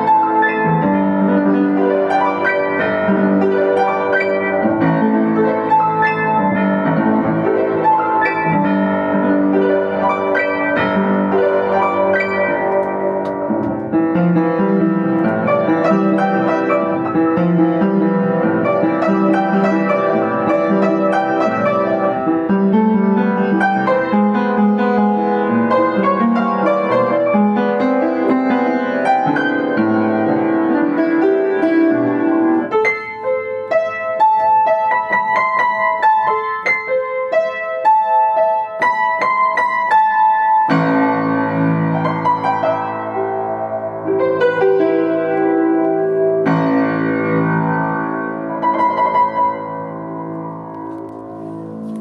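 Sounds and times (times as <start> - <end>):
upright piano playing: 0.0 - 52.0.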